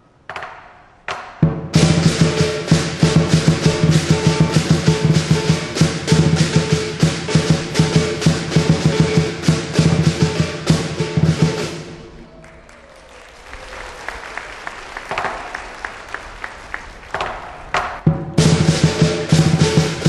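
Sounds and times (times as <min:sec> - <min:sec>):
street noise: 0:00.0 - 0:20.0
loud drumming and percussion: 0:00.4 - 0:12.3, 0:14.6 - 0:20.0.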